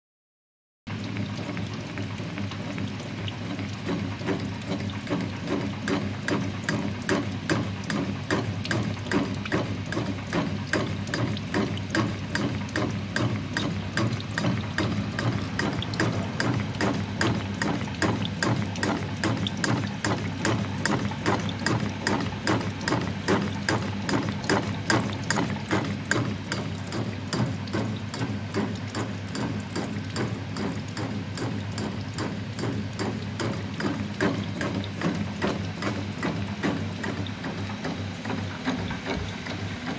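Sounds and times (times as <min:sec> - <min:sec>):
steady machine hum: 0:01.0 - 0:39.9.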